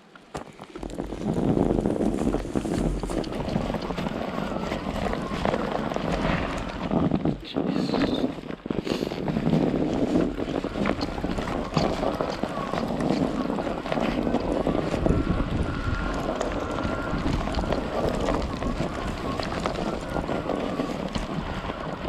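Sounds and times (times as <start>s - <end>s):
wind buffeting microphone: 0.6s - 22.0s.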